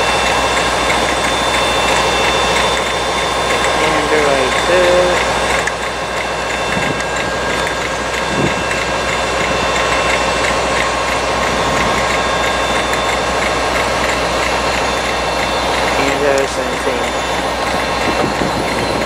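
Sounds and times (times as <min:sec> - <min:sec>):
fast light ticking: 0:00.0 - 0:18.9
steady tones: 0:00.0 - 0:19.0
train running noise: 0:00.0 - 0:19.0.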